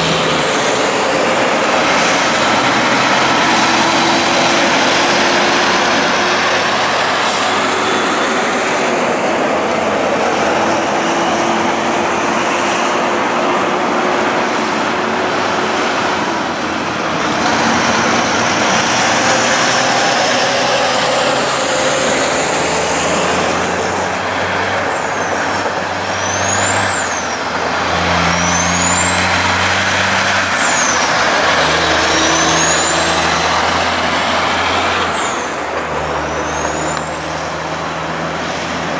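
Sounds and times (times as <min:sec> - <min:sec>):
truck diesel engines running: 0:00.0 - 0:38.9
tyre and road noise: 0:00.0 - 0:38.9.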